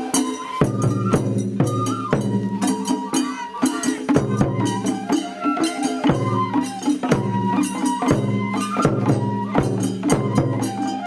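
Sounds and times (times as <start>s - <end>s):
sharp percussion strikes: 0.0s - 11.0s.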